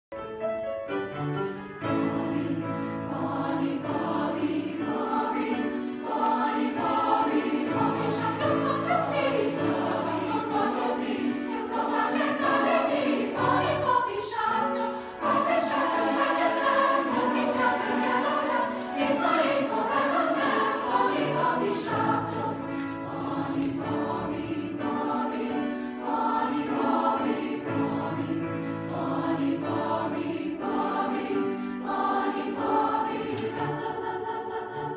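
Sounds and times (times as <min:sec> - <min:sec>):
mixed choir singing in harmony: 0:01.0 - 0:34.9.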